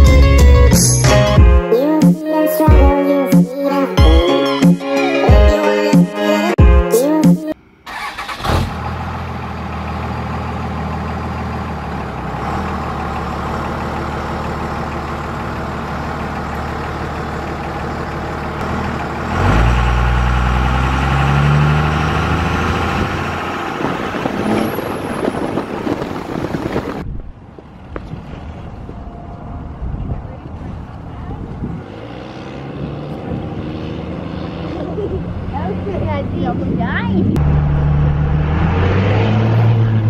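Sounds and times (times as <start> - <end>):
diesel pickup engine accelerating: 7.6 - 40.0.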